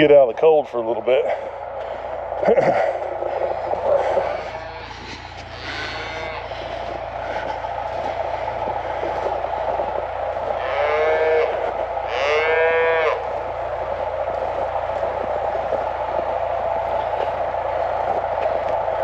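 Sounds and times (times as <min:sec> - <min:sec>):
steady background noise: 0:00.0 - 0:19.0
cattle mooing: 0:03.0 - 0:18.9.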